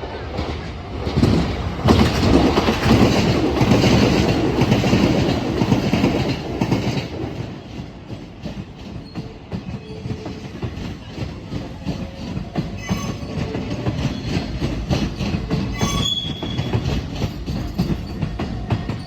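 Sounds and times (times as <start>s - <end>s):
train wheels clattering over rail joints: 0.4s - 19.0s.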